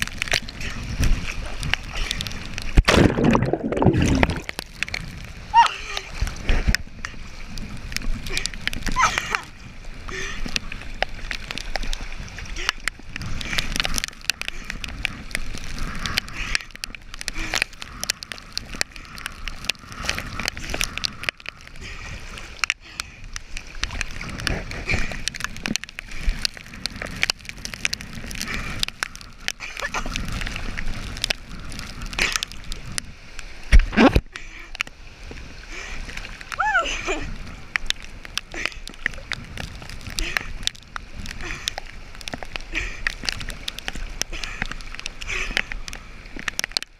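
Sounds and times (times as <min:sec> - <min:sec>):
water splashing against camera: 0:00.0 - 0:46.9.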